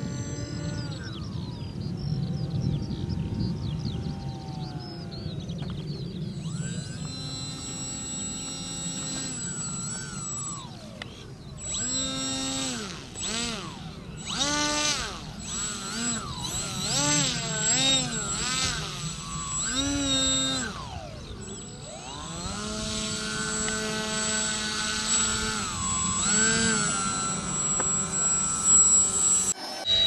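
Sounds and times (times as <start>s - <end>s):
model plane motor and propeller: 0.0s - 30.0s.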